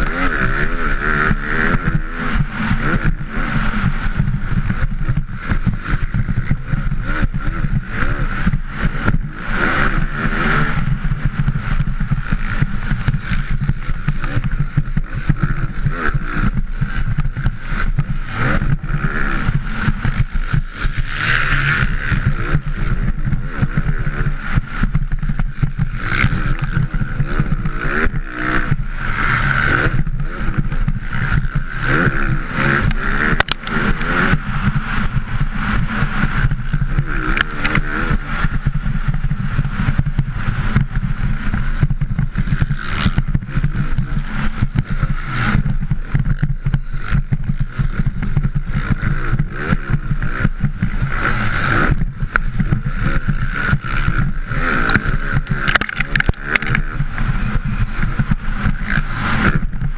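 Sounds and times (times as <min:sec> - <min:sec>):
motocross bike engine revving: 0:00.0 - 0:59.9
wind buffeting microphone: 0:01.3 - 0:59.9.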